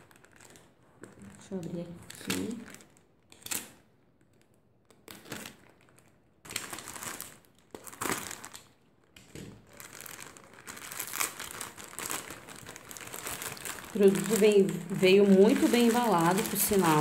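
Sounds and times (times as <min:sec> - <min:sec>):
plastic bag tearing: 0:00.0 - 0:17.0
plastic mailer bag crinkling: 0:00.0 - 0:17.0.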